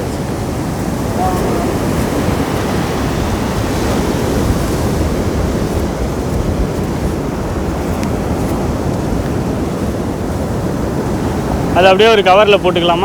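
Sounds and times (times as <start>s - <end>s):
sea surf washing on beach: 0.0s - 13.0s
wind buffeting microphone: 0.0s - 13.0s.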